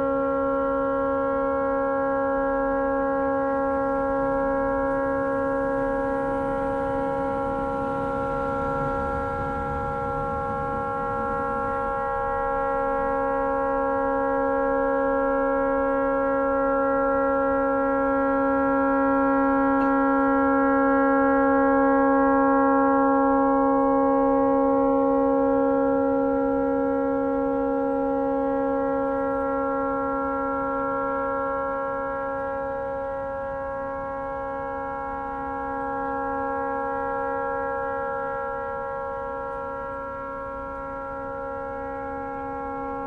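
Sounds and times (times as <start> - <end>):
continuous air horn blast: 0.0 - 43.0.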